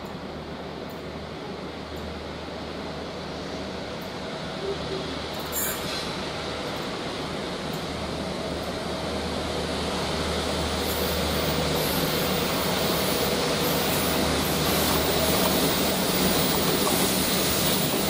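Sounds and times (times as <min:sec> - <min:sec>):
diesel locomotive engines: 0:00.0 - 0:18.0.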